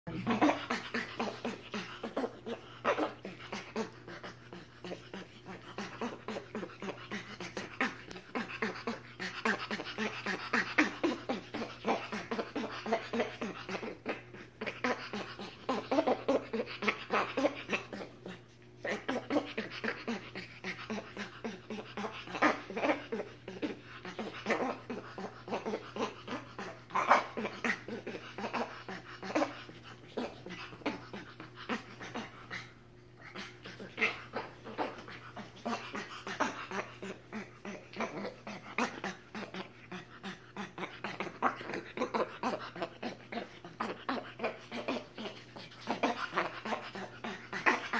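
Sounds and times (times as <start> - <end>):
monkeys panting huffs: 0.1 - 47.9.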